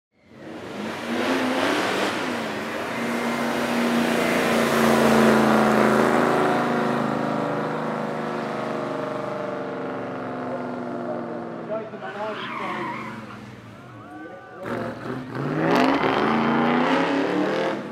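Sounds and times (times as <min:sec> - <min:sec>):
race car accelerating away: 0:00.2 - 0:17.9.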